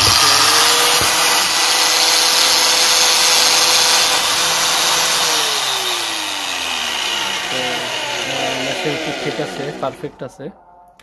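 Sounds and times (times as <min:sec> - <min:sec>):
electric grinder motor whining: 0:00.0 - 0:10.2.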